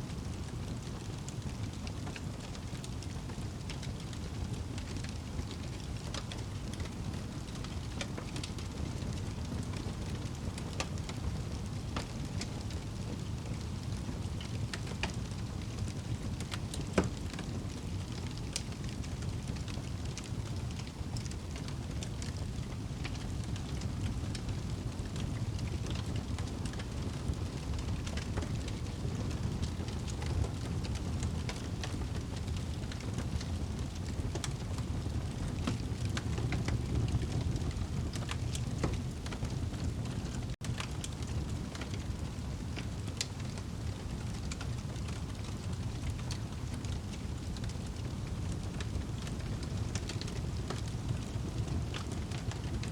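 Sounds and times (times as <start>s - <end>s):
fire flames rumbling: 0.1s - 52.9s
wood fire crackling and popping: 0.1s - 52.9s.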